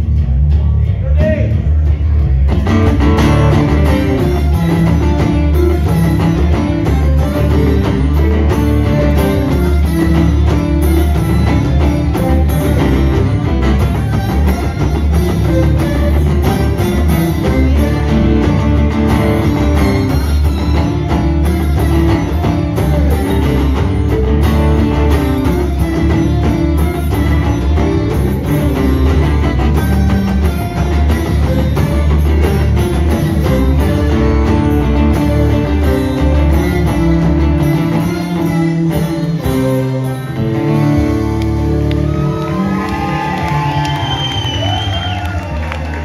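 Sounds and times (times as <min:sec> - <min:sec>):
bass-heavy band music: 0:00.0 - 0:46.0
violin: 0:01.9 - 0:46.0
acoustic guitar strummed: 0:02.0 - 0:42.6
cello: 0:03.0 - 0:45.0.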